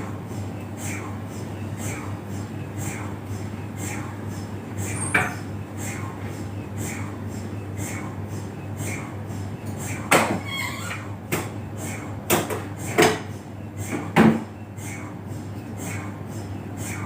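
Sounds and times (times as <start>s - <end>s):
mri scanner hum: 0.0s - 10.2s, 11.0s - 17.0s.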